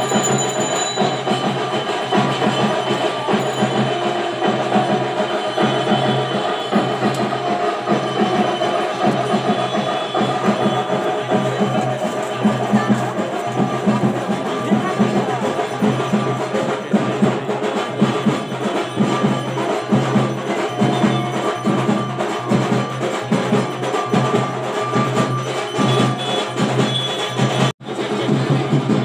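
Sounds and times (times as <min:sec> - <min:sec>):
percussion music with metallic strikes: 0:00.0 - 0:29.0.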